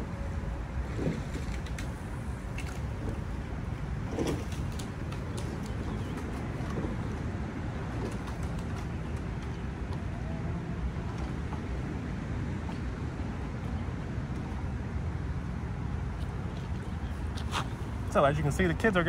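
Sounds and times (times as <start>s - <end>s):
lake water rippling: 0.0s - 19.0s.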